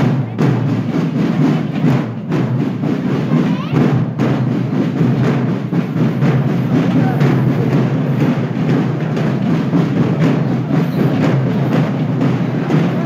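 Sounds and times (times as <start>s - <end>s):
marching drums: 0.0s - 13.0s.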